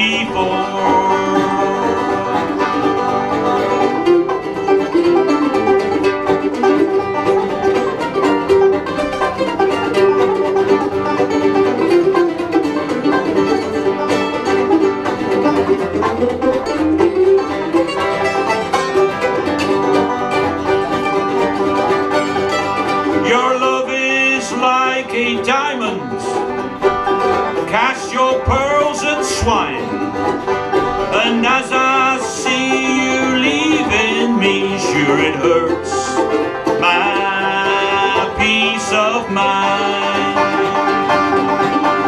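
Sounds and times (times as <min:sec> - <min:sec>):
banjo picking: 0:00.0 - 0:42.0
fiddle melody: 0:00.0 - 0:42.0
strummed acoustic guitar: 0:00.0 - 0:42.0.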